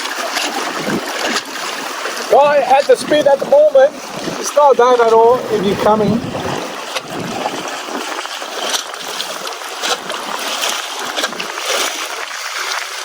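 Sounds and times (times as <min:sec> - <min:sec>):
sea water washing against rocks: 0:00.0 - 0:13.0
short water splashes: 0:00.0 - 0:13.0.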